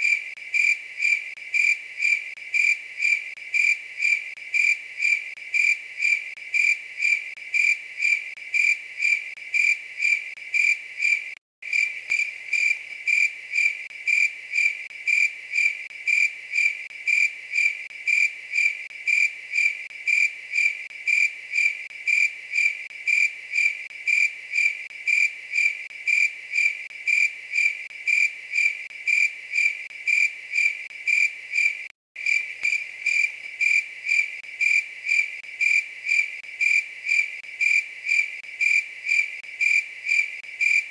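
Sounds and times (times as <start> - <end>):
insect chirping: 0.0 - 40.9.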